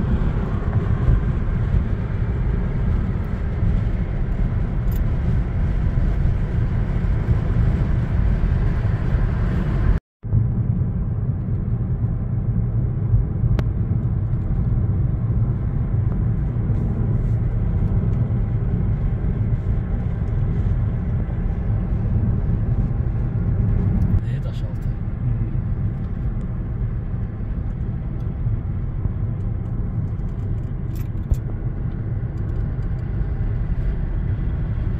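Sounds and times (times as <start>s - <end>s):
car rumble inside cabin: 0.0s - 34.9s.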